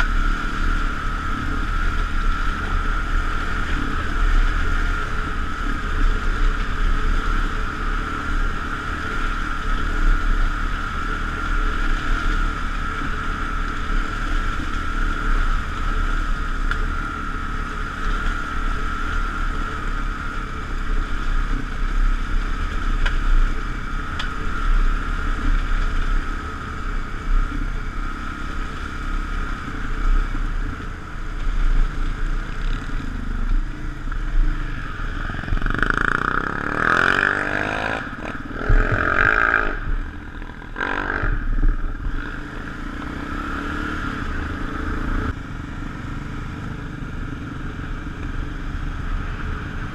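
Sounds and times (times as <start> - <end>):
motorcycle exhaust cruising: 0.0 - 49.9
steady high whine: 0.0 - 49.9.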